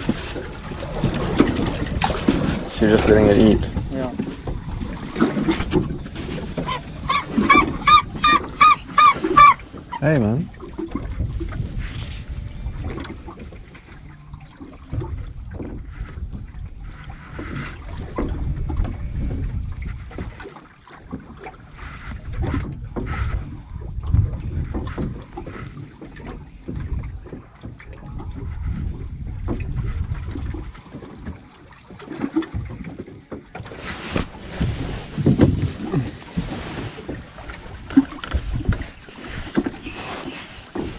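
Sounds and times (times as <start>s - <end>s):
wind buffeting microphone: 0.0s - 20.5s, 21.1s - 31.5s, 33.8s - 40.9s
waves slapping boat hull: 0.0s - 40.9s.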